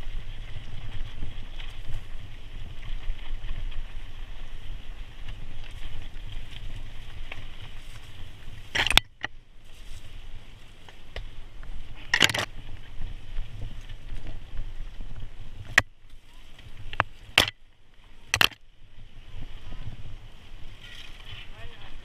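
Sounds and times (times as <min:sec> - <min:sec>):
bike rattling over rocks: 0:00.0 - 0:22.0
bike tyres rumbling on dirt: 0:00.0 - 0:22.0
wind: 0:00.0 - 0:22.0.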